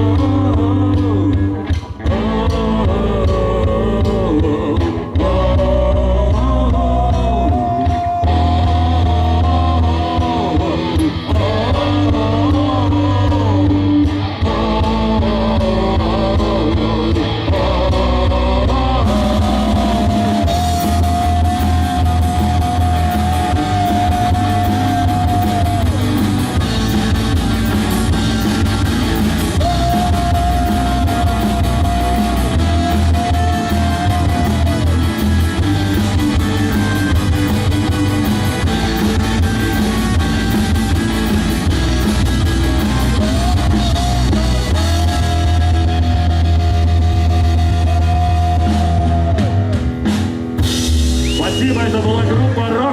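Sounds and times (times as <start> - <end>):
live rock band: 0.0 - 52.9
lead guitar sustained notes: 6.4 - 52.9.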